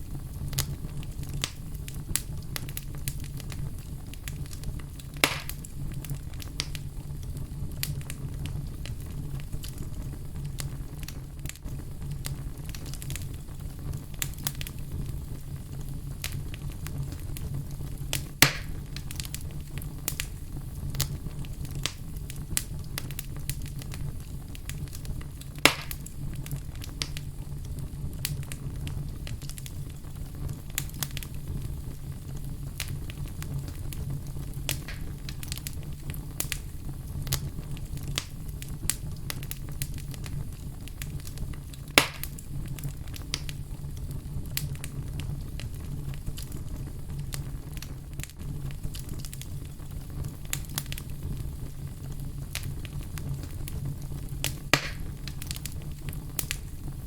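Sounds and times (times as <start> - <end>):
low fire rumble: 0.0 - 57.0
wood fire crackling and popping: 0.0 - 57.0.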